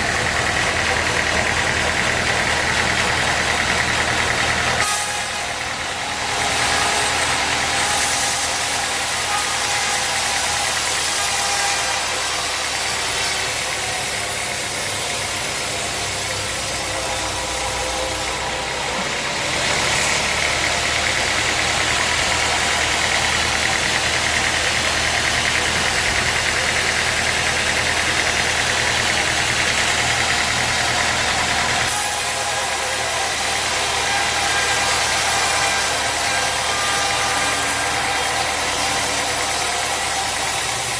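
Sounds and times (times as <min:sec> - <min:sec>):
high machine whine: 0:00.0 - 0:40.9
sawmill machinery drone: 0:00.0 - 0:40.9.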